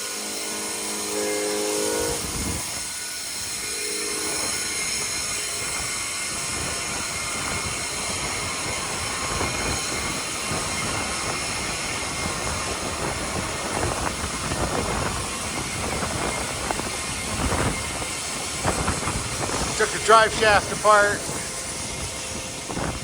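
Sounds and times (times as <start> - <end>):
grain vacuum rushing and whining: 0.0 - 23.0.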